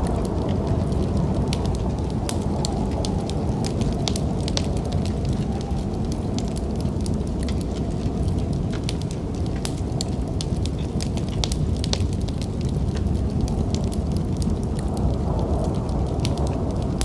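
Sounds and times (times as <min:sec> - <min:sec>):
snowstorm wind rumble: 0:00.0 - 0:17.0
wood fire crackling and popping: 0:00.0 - 0:17.0.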